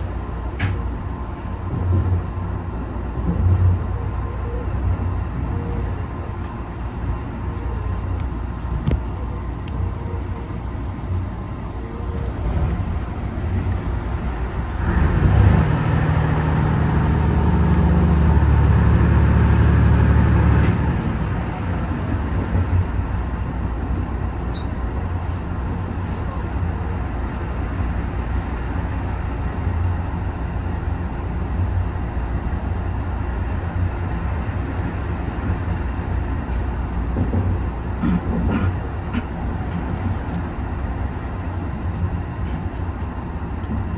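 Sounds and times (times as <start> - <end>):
train rumbling on track: 0.0 - 43.9.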